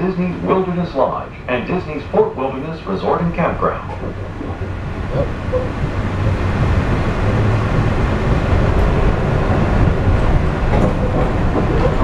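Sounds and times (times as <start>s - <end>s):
monorail cabin rumble: 0.0s - 12.0s.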